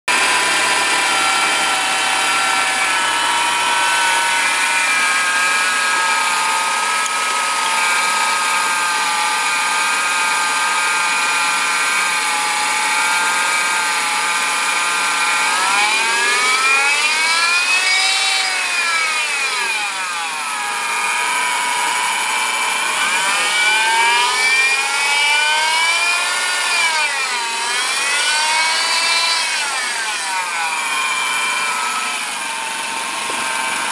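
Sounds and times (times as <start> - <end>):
buzzing whine of belt pulley: 0.1 - 33.9.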